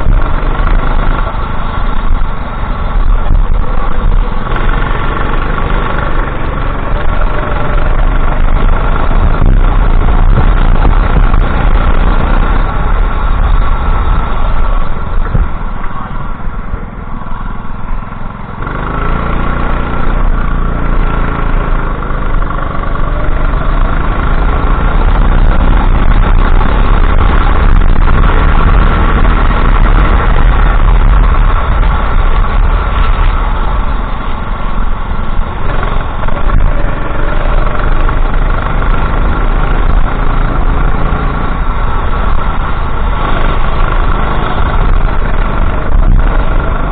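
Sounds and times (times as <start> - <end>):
go-kart engine accelerating: 0.0 - 46.9.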